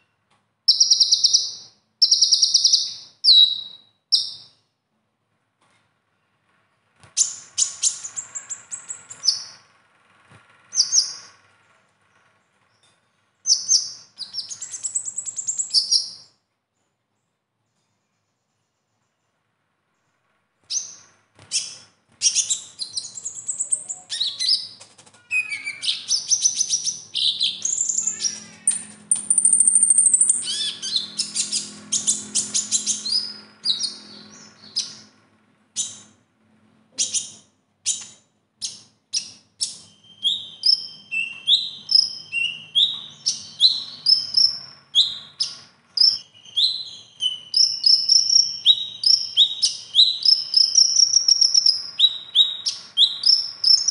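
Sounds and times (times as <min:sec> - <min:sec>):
bird singing trills: 0:00.0 - 0:04.7, 0:07.2 - 0:09.7, 0:10.7 - 0:11.4, 0:12.7 - 0:16.4, 0:20.7 - 0:36.2, 0:37.0 - 0:53.9.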